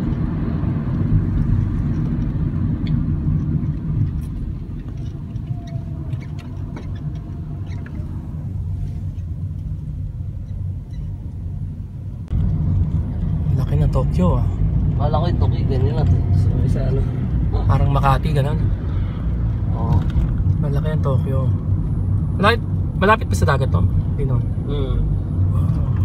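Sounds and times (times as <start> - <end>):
road and engine rumble in taxi: 0.0 - 26.0.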